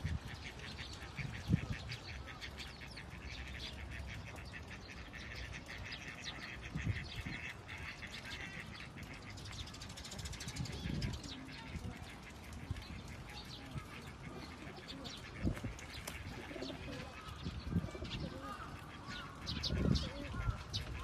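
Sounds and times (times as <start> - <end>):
small birds chirping rapidly: 0.0 - 21.0.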